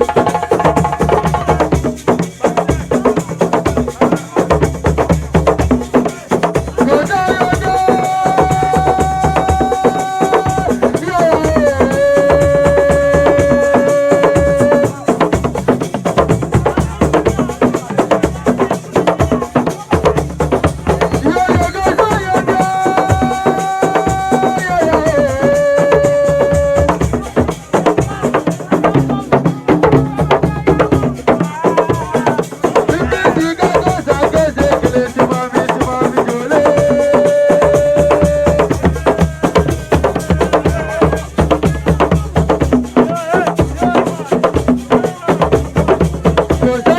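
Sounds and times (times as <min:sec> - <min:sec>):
fast drumming with rattles: 0:00.0 - 0:46.9.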